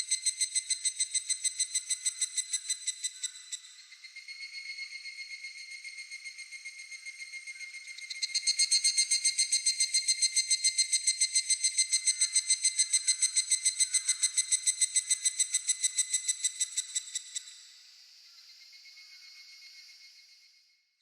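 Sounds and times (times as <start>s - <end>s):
faint cricket chirring: 0.0s - 21.0s
cicada calling: 0.1s - 17.5s.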